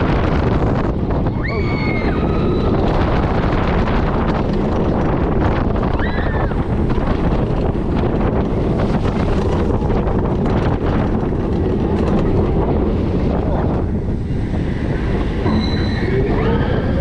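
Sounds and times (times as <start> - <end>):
roller coaster wheels rumbling: 0.0 - 17.0
wind buffeting microphone: 0.0 - 17.0.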